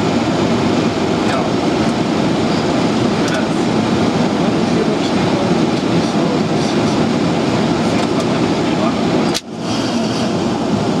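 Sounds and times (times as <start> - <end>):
airplane cockpit noise: 0.0 - 11.0.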